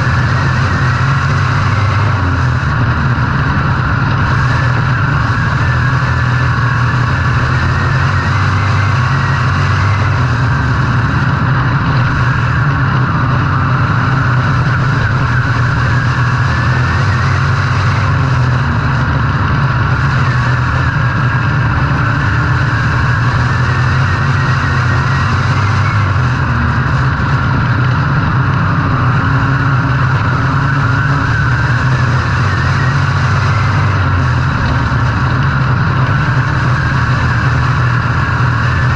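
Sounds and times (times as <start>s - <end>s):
race car engine droning: 0.0s - 38.9s.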